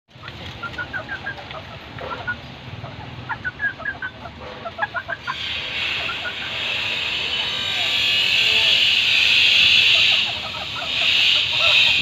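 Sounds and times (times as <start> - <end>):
chickens clucking: 0.1 - 12.0.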